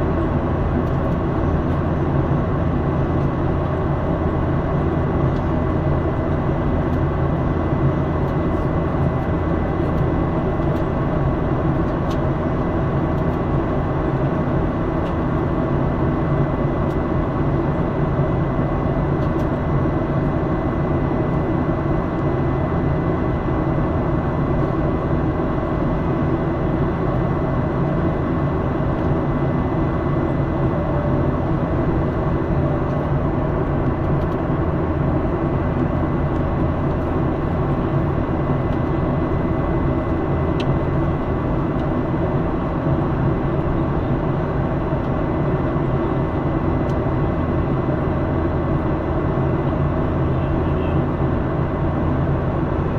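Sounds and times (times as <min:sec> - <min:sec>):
jet engine roar in cabin: 0:00.0 - 0:52.9.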